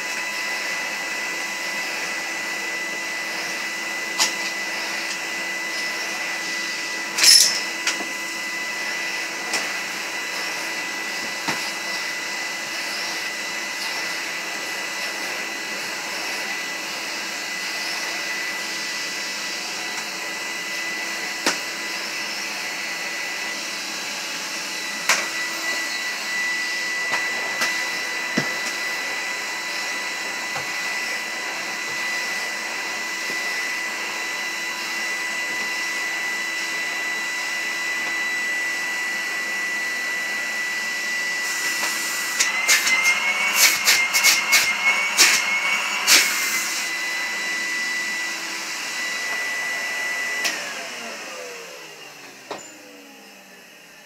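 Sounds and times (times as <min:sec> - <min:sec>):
vacuum cleaner high whine: 0:00.0 - 0:54.0.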